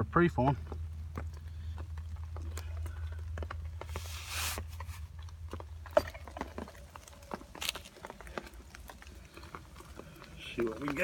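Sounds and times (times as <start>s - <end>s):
steady low rumble: 0.0s - 11.0s
soil and grit scraping: 1.2s - 11.0s.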